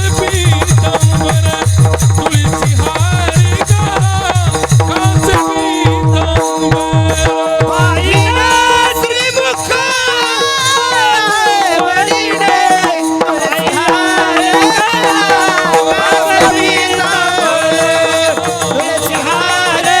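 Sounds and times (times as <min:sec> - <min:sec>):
man singing devotional melody: 0:00.0 - 0:20.0
percussion: 0:00.0 - 0:20.0.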